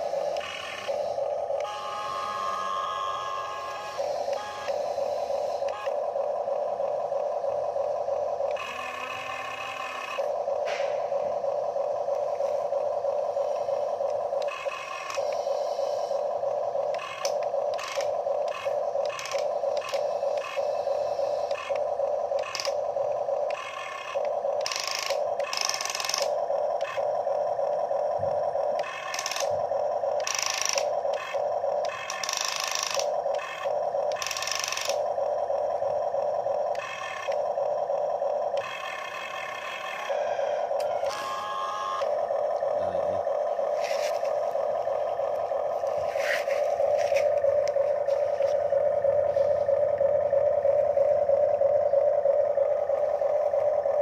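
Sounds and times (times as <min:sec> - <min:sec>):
electric motors whining: 0:00.0 - 0:54.0
harsh gear noise: 0:00.0 - 0:54.0.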